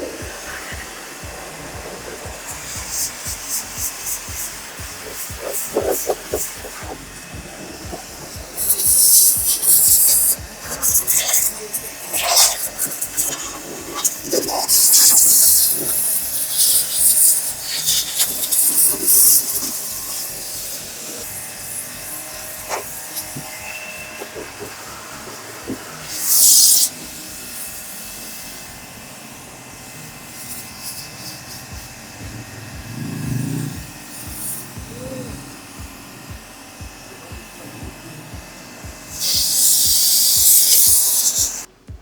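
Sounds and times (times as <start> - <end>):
pressure washer spray bursts: 0.0 - 42.0.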